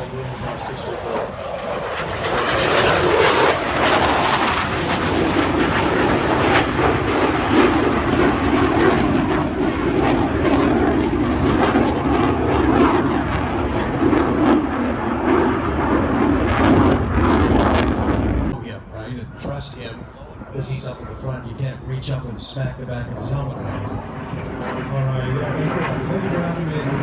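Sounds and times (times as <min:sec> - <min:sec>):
fighter jets flying: 0:00.0 - 0:27.0.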